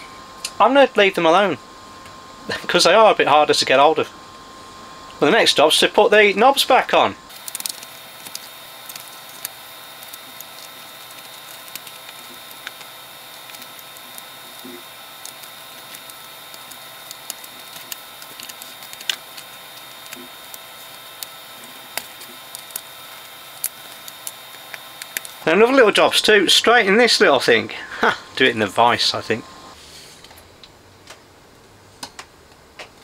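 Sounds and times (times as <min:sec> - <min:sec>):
steady hiss: 0:02.4 - 0:30.5.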